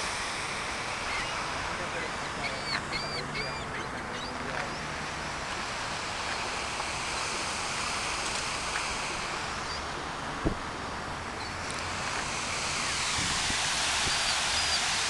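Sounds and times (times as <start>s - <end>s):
fountain water splashing into basin: 0.0s - 15.0s.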